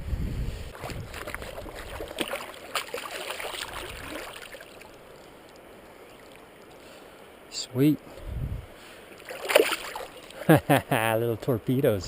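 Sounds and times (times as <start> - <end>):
river water trickling and splashing: 0.7 - 10.8.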